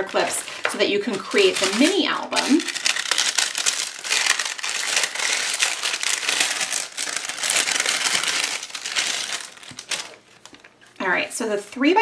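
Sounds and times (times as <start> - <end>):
plastic and paper crinkling: 0.0 - 12.0.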